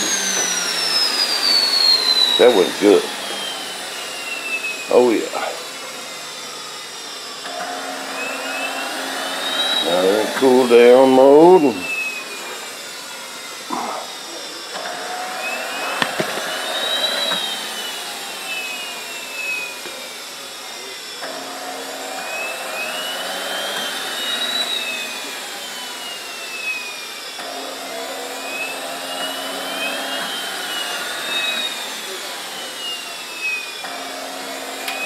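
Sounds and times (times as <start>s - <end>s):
model jet turbine whine: 0.0s - 35.0s.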